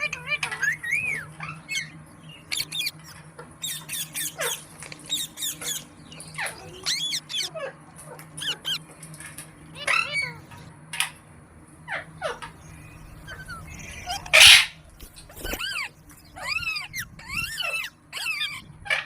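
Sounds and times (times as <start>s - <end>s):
parrot squawking and chirping: 0.0s - 8.9s, 9.7s - 10.7s, 11.8s - 19.0s.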